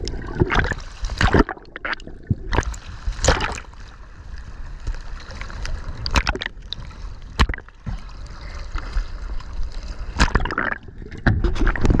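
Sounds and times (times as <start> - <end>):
seawater sloshing and splashing: 0.0 - 12.0.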